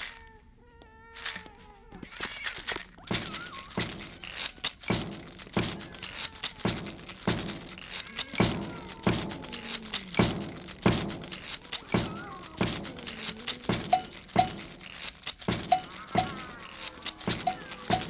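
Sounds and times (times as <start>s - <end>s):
rhythmic stomping and clapping: 3.0s - 18.0s.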